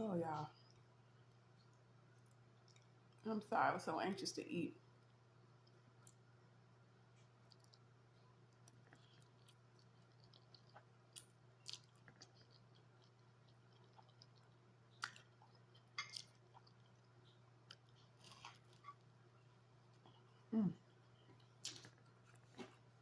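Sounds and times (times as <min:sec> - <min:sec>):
steady low hum: 0:00.0 - 0:23.0
person chewing food: 0:00.6 - 0:03.2, 0:04.9 - 0:06.4, 0:07.0 - 0:23.0.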